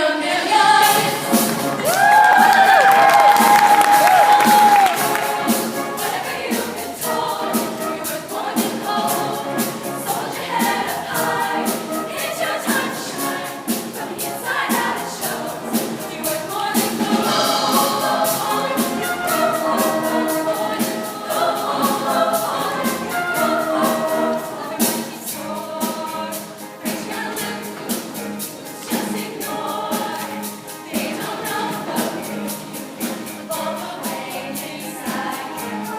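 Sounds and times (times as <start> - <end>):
vocal group singing: 0.0 - 35.9
backing music with steady beat: 0.7 - 35.9.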